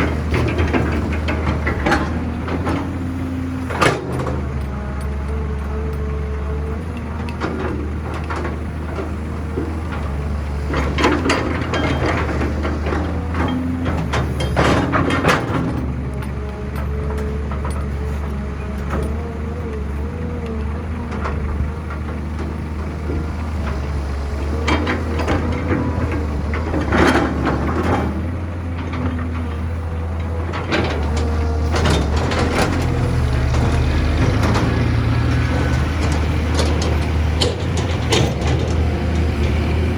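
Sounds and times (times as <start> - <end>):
diesel engine running: 0.0 - 39.9
excavator knocking and scraping: 0.0 - 39.9
machinery clanking and rattling: 0.0 - 39.9.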